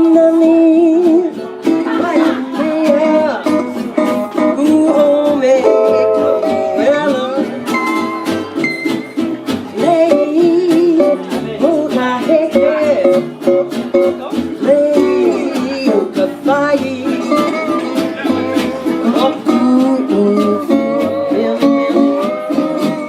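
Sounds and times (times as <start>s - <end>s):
strummed guitar and ukulele: 0.0s - 23.0s
sliding melody line: 1.7s - 23.0s.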